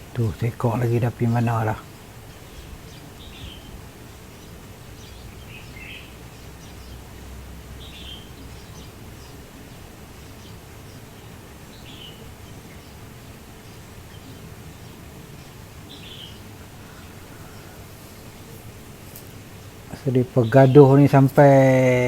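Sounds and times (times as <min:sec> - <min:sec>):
low outdoor background noise: 0:00.0 - 0:22.0.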